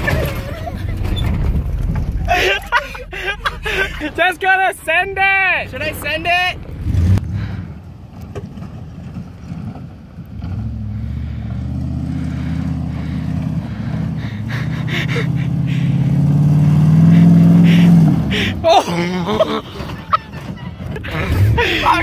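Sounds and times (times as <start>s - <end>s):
truck engine pulling hard: 0.0s - 22.0s.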